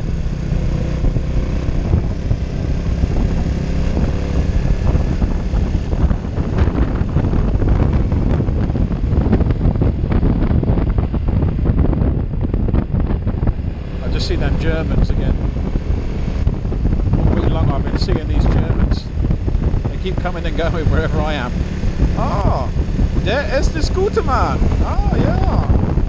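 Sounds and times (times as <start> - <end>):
motorcycle engine running: 0.0 - 26.0
wind buffeting microphone: 0.0 - 26.0.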